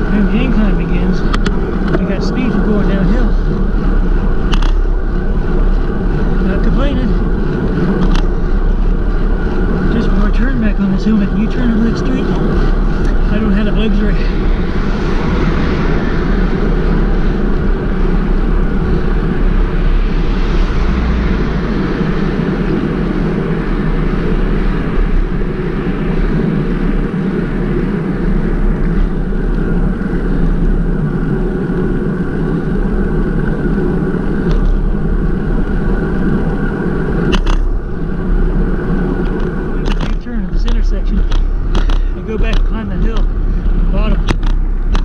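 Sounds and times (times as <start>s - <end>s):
bicycle tyre noise: 0.0s - 45.0s
wind rushing across microphone: 0.0s - 45.0s.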